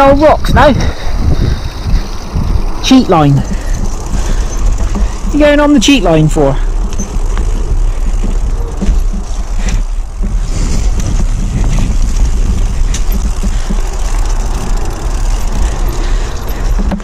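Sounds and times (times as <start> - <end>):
bike rattling over rocks: 0.0 - 17.0
bike rolling and wind rumble: 0.0 - 17.0.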